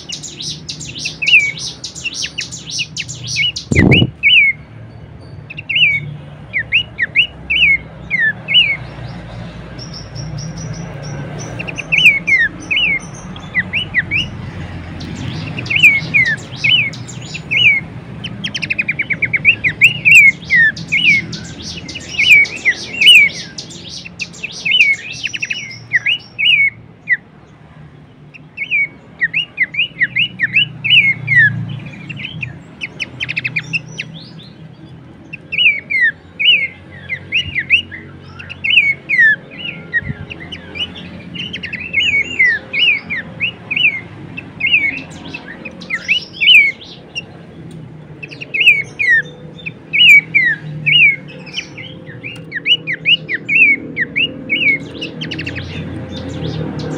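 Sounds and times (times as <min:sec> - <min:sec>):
bird singing whistled notes: 0:00.0 - 0:27.2, 0:28.4 - 0:47.4, 0:48.2 - 0:56.9.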